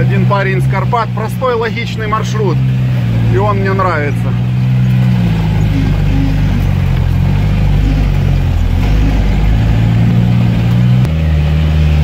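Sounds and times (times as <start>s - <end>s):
engine revving inside cab: 0.0s - 12.0s.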